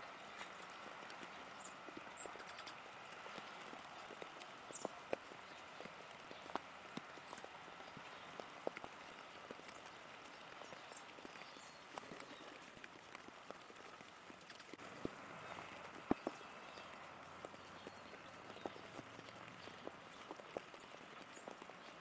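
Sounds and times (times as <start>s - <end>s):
light rain patter: 0.0s - 22.0s
rain drips tapping: 0.0s - 22.0s.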